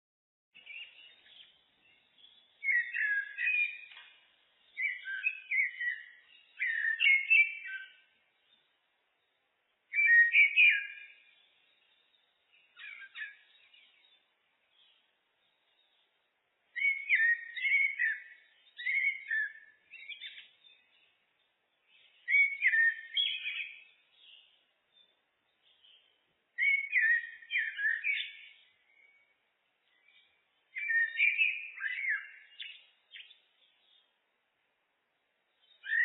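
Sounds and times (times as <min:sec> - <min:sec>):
blackbird singing fluting phrases: 0:00.6 - 0:04.0, 0:04.6 - 0:08.6, 0:09.9 - 0:16.1, 0:16.7 - 0:21.1, 0:21.9 - 0:25.1, 0:25.7 - 0:29.3, 0:29.9 - 0:34.1, 0:35.6 - 0:36.0.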